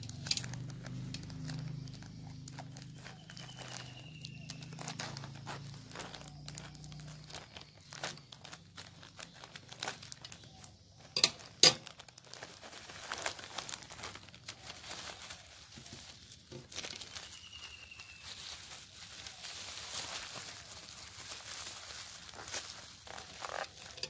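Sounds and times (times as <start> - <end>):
bubble wrap packet rustling: 0.0 - 24.0
plastic crinkling: 0.0 - 24.0.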